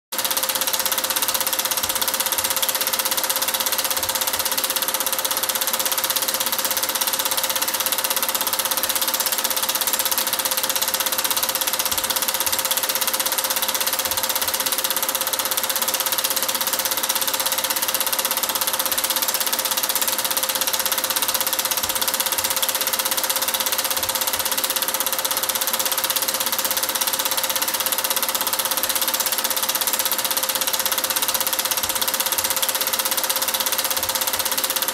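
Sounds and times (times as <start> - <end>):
film projector whirring: 0.2 - 34.9.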